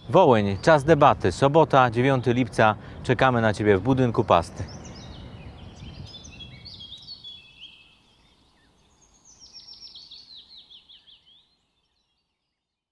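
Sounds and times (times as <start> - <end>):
songbird singing: 0.0 - 12.9.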